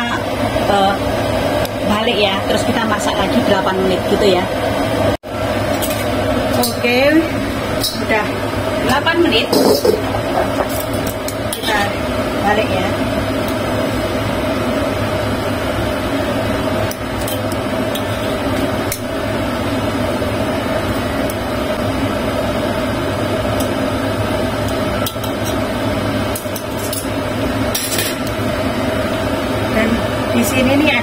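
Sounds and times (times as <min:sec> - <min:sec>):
kitchen mechanical hum: 0:00.0 - 0:31.0.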